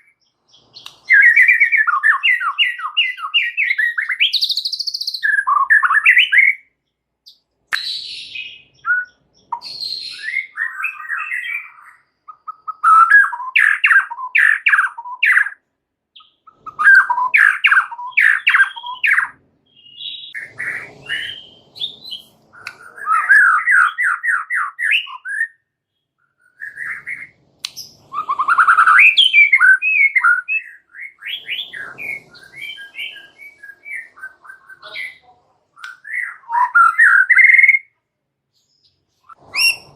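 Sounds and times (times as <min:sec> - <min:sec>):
songbird singing varied song: 0:00.0 - 0:35.2, 0:35.8 - 0:39.9.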